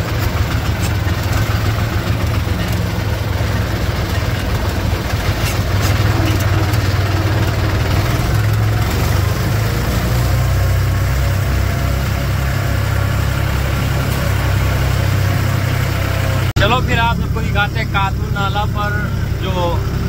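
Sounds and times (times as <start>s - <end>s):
tractor engine droning: 0.0s - 20.0s.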